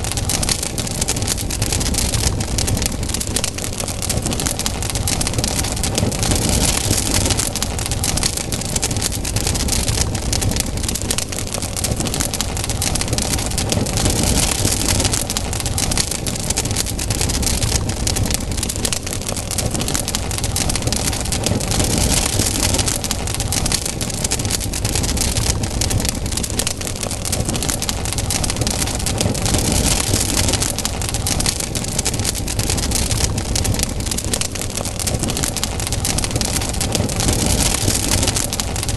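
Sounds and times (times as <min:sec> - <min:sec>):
campfire crackling: 0:00.0 - 0:38.9
low fire rumble: 0:00.0 - 0:38.9
rushing hiss of fire: 0:00.0 - 0:38.9.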